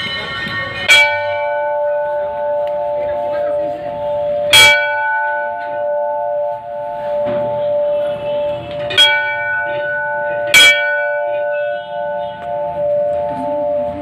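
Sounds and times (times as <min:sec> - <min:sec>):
large brass bell ringing: 0:00.0 - 0:14.0.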